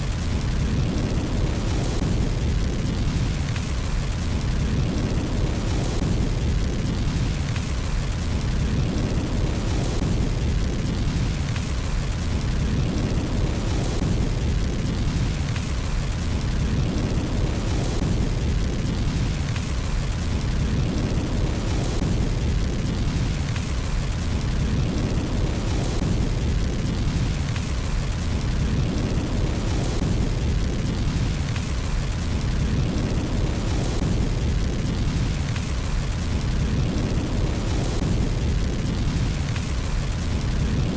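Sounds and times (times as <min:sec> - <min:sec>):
fireplace fire roaring: 0:00.0 - 0:40.9.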